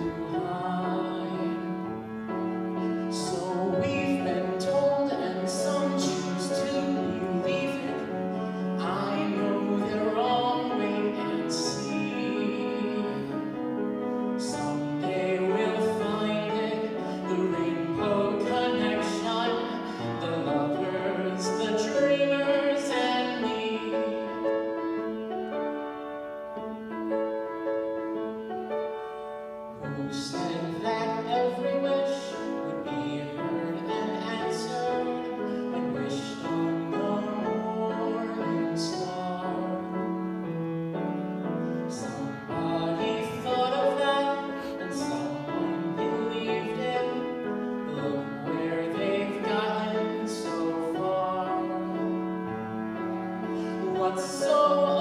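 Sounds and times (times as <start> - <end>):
man singing into a microphone: 0.0 - 24.8, 29.8 - 40.3, 41.6 - 55.0
piano accompaniment: 0.0 - 55.0.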